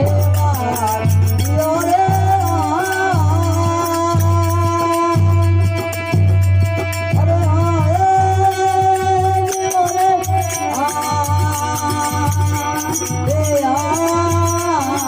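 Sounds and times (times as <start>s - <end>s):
low drum beats: 0.0s - 15.0s.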